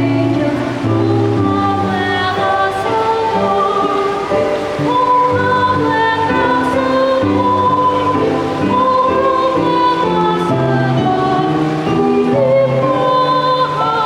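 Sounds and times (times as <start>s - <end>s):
children's choir singing carol: 0.0s - 14.0s.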